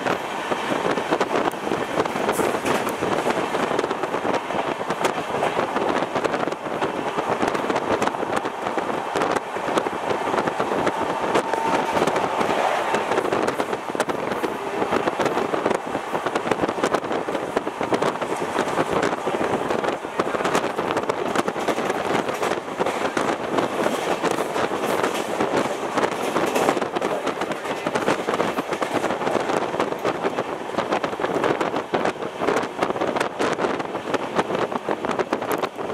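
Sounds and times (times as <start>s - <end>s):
rushing wind: 0.0s - 35.9s
train wheels clattering on rails: 0.0s - 35.9s.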